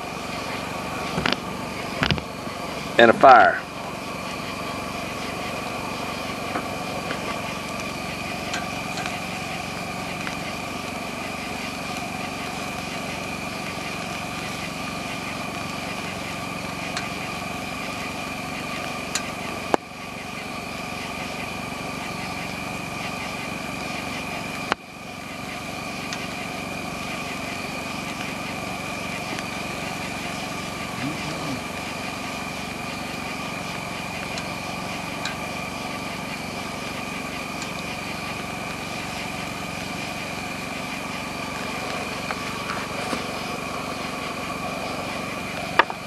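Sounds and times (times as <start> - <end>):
wood fire crackling: 0.0 - 3.0, 3.6 - 46.0
steady engine-like hum: 0.0 - 46.0
chicken wings grilling: 3.7 - 46.0.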